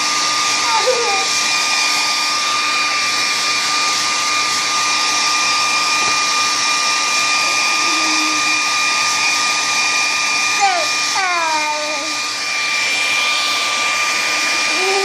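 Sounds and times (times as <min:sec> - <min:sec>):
electric appliance whirring: 0:00.0 - 0:15.0.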